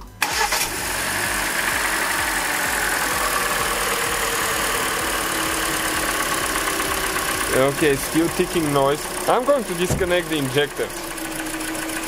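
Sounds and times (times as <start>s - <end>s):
car engine idling: 0.0s - 12.0s
engine ticking knock: 1.3s - 12.0s.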